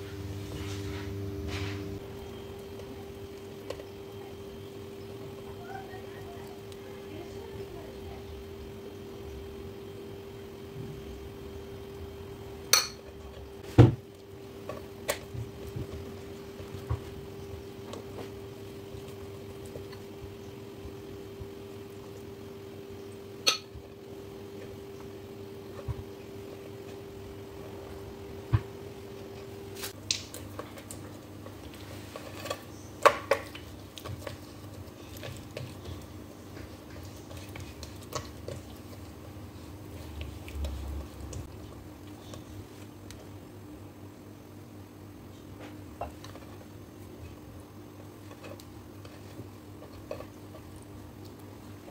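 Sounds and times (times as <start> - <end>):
dough squishing by hand: 0.0 - 43.9, 45.0 - 51.9.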